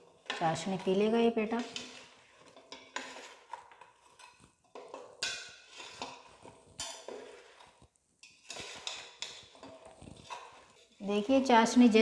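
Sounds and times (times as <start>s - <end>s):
spatula scraping steel bowl: 0.0s - 12.0s.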